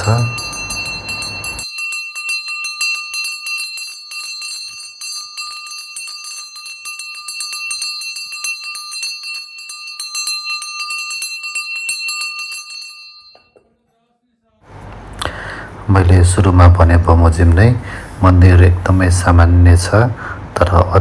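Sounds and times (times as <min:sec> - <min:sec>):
temple bell ringing rapidly: 0:00.0 - 0:13.6, 0:15.9 - 0:20.1.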